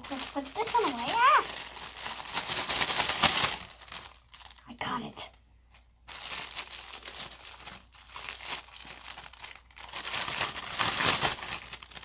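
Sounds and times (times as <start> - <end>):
slime squashing and crackling: 0.0 - 4.6, 6.1 - 12.0.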